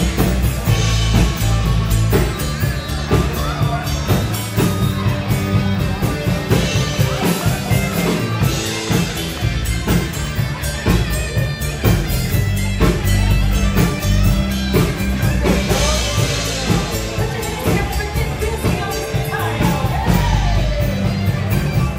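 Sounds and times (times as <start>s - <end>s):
rock music with guitar and drums: 0.0s - 21.9s.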